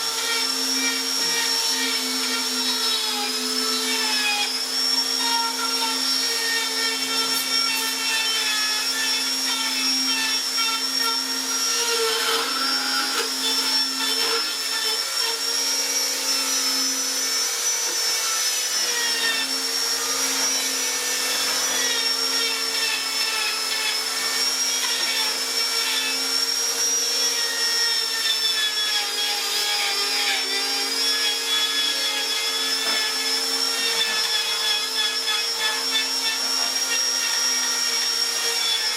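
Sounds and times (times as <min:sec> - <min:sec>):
electric power tool motor whining: 0:00.0 - 0:38.9.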